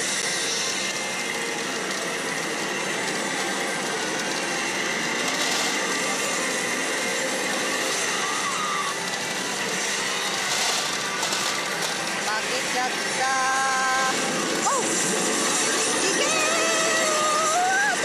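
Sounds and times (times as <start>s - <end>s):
many machines running: 0.0s - 18.0s
steel balls clattering: 1.7s - 18.0s.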